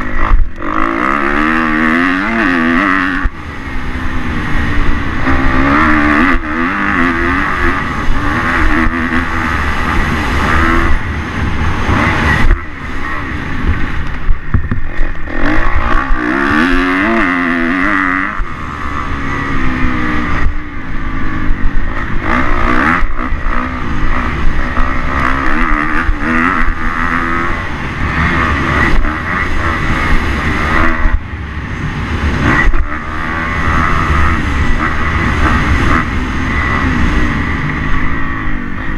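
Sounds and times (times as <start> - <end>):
motorbike engine revving: 0.0 - 38.9
wind rumbling on microphone: 0.0 - 38.9.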